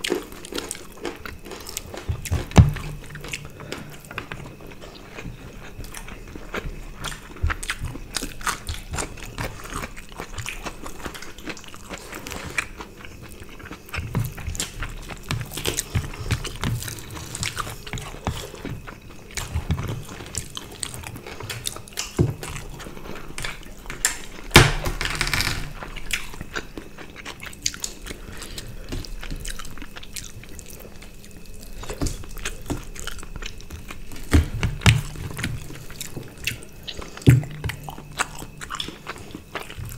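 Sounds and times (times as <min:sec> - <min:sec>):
people chewing and eating: 0:00.0 - 0:24.5, 0:25.7 - 0:39.9.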